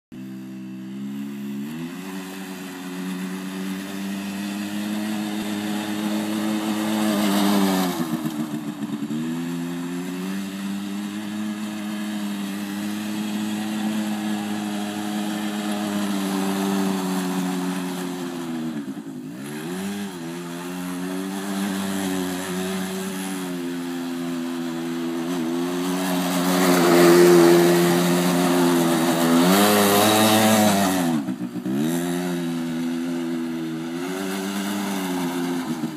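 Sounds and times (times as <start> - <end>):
quad bike engine running: 0.1 - 35.9.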